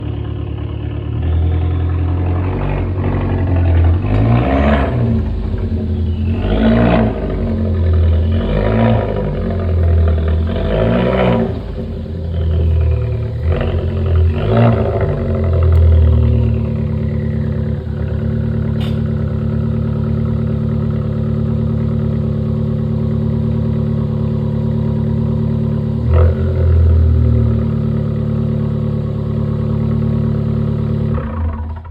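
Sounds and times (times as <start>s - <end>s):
car engine revving and idling: 0.0s - 31.9s.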